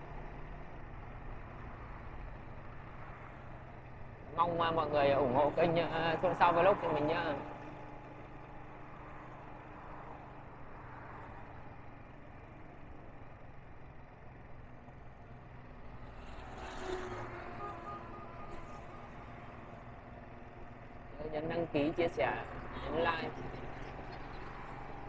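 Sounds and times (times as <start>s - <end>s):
road and engine noise in car cabin: 0.0s - 25.0s.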